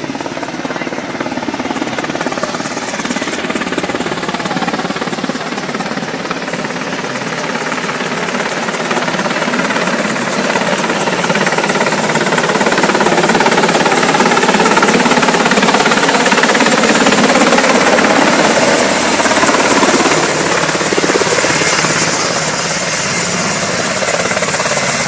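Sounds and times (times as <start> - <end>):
helicopter rotor chop: 0.0 - 25.0.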